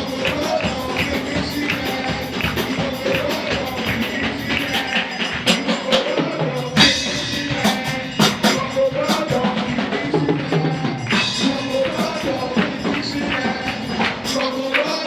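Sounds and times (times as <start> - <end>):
church praise music: 0.0 - 15.0
drum kit beat: 0.0 - 15.0
tambourine: 0.0 - 15.0.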